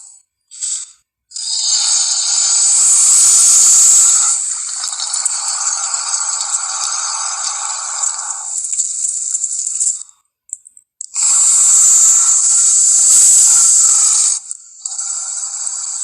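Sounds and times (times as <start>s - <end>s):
creature rattling hiss: 0.5s - 10.1s, 11.2s - 16.0s.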